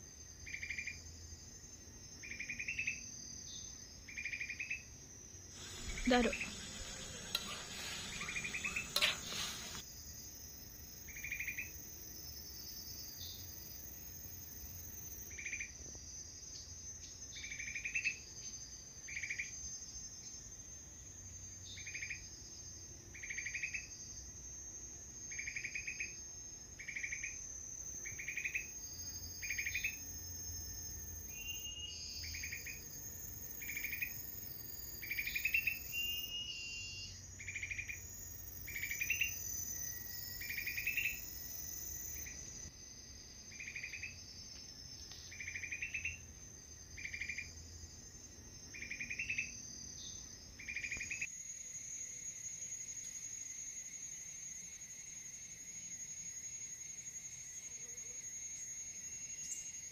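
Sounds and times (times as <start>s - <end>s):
insect buzzing chirp: 0.0s - 59.9s
insects droning: 0.0s - 59.9s.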